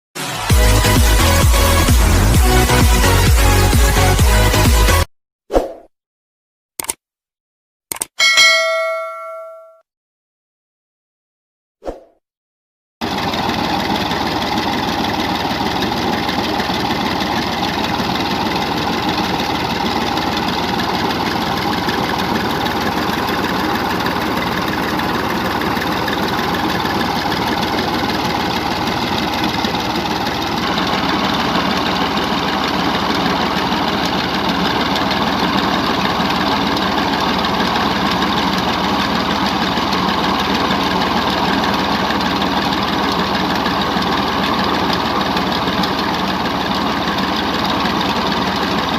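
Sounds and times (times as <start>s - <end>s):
tractor engine under heavy load: 0.4s - 4.7s, 13.0s - 48.9s.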